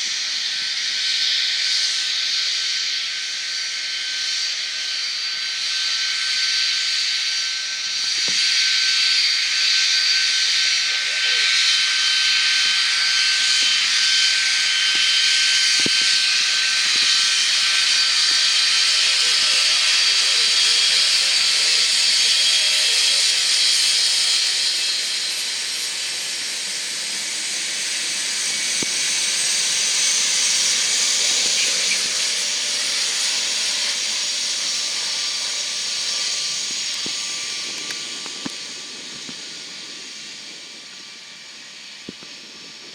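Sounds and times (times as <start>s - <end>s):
jet engines hissing and whining: 0.0s - 42.9s.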